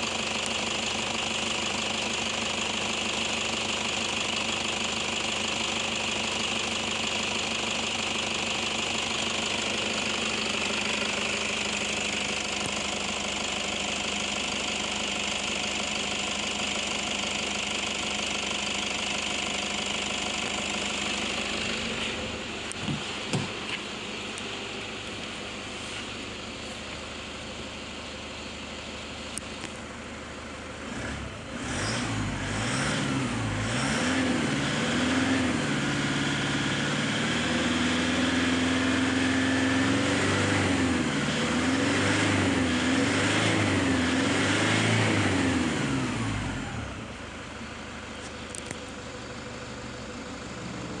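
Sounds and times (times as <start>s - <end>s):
diesel engine idling and revving: 0.0s - 51.0s.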